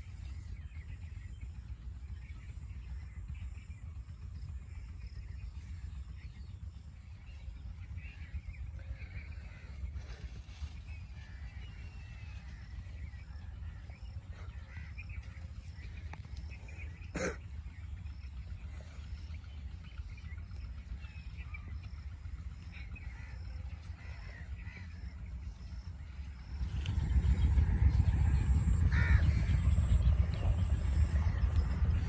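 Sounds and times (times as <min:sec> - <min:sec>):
faint bird calls: 0:00.0 - 0:32.0
low steady rumble: 0:00.0 - 0:32.0.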